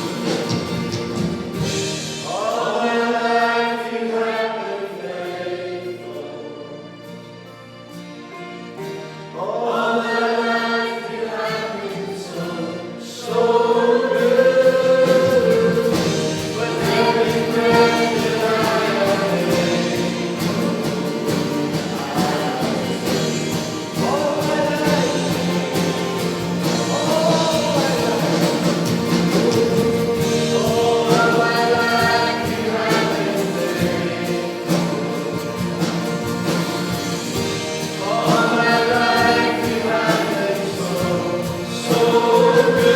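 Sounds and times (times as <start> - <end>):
choir singing a hymn: 0.0 - 42.9.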